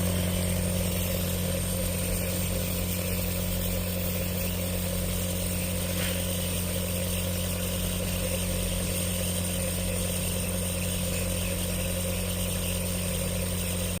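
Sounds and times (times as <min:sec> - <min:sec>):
nebulizer compressor humming: 0:00.0 - 0:14.0.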